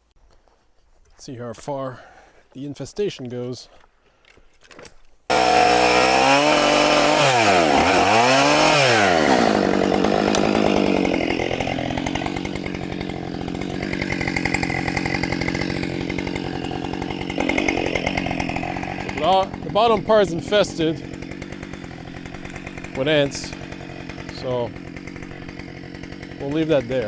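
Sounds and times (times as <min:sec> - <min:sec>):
chainsaw cutting log: 0:04.8 - 0:27.0.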